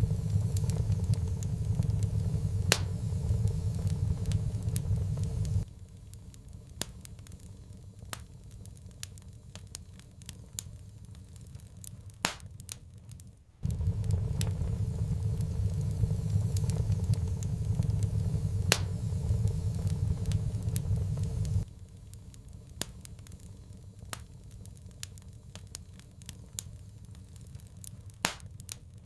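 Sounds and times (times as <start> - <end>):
low steady rumble: 0.0 - 9.0, 13.6 - 28.3
wood fire crackling: 0.0 - 29.0.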